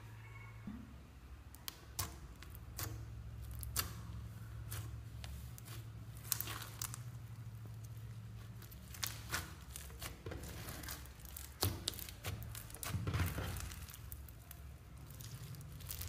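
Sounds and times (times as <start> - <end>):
low steady hum: 0.0 - 16.0
slime crackling and popping: 1.5 - 16.0.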